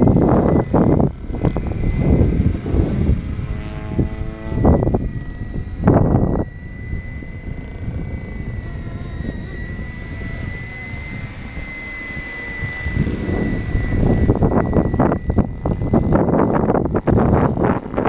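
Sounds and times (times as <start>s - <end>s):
model helicopter high whine: 0.0s - 18.0s
wind buffeting microphone: 0.0s - 18.0s.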